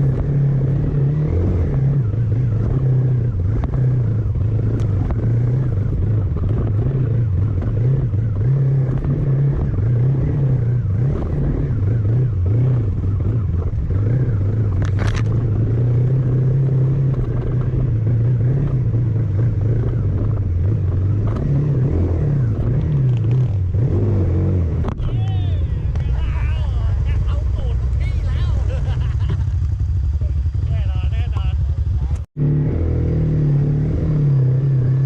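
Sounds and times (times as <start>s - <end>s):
road noise: 0.0s - 35.0s
vehicle engine droning: 0.0s - 35.0s.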